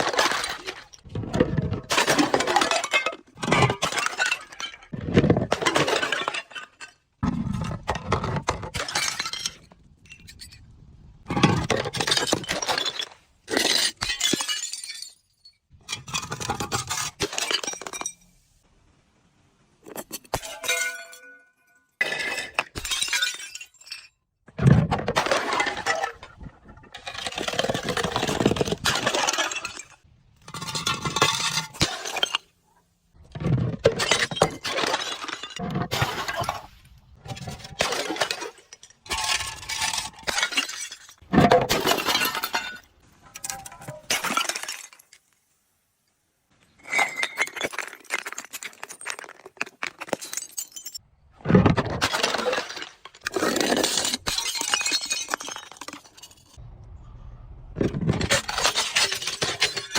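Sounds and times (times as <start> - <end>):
glass bottles breaking: 0.0 - 10.7, 11.3 - 18.4, 19.8 - 32.5, 33.2 - 45.3, 46.8 - 56.6, 58.0 - 59.9.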